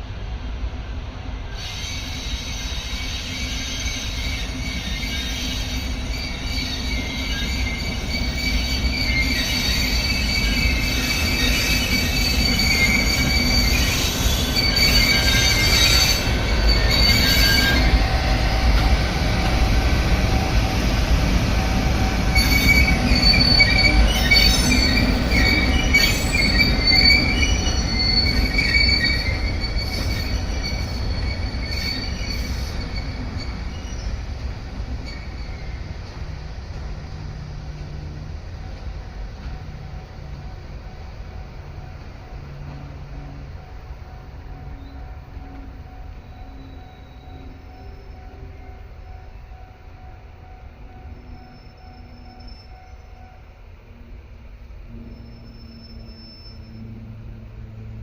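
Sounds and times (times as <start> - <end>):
train wheels squealing on rails: 1.0 - 58.0.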